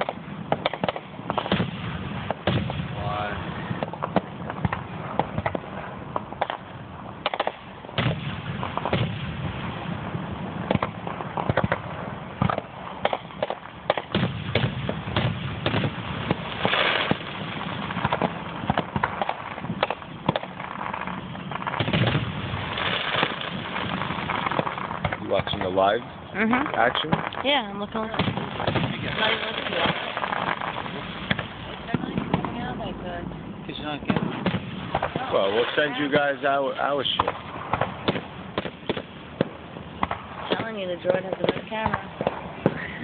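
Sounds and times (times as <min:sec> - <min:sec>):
fireworks bursting with sharp bangs: 0:00.0 - 0:43.0.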